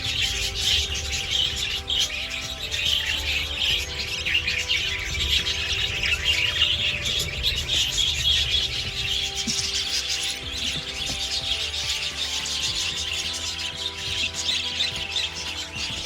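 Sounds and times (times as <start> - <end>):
flock of budgerigars chirping: 0.0 - 16.0.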